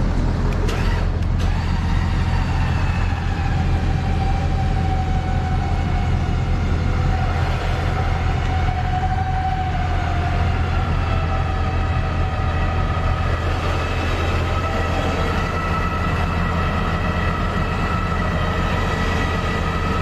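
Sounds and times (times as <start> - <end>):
truck engine droning: 0.0 - 20.0
winch whine: 0.0 - 20.0.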